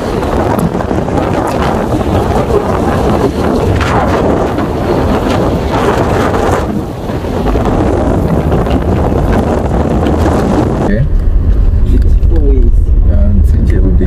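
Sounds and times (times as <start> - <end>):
road noise: 0.0 - 14.0
wind buffeting microphone: 0.0 - 14.0.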